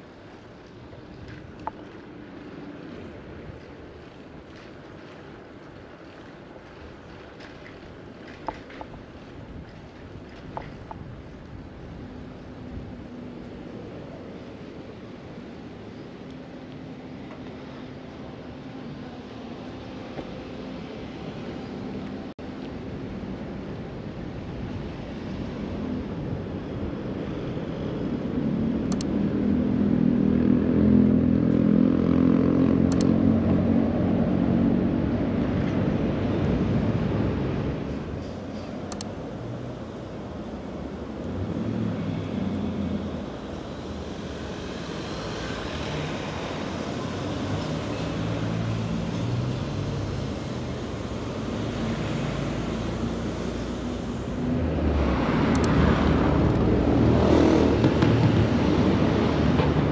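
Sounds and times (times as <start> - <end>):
steady traffic noise: 0.0 - 59.9.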